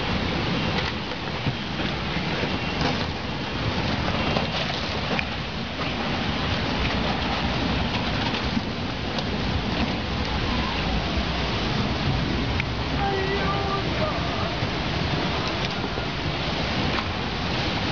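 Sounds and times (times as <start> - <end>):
flood water rushing down street: 0.0 - 17.9.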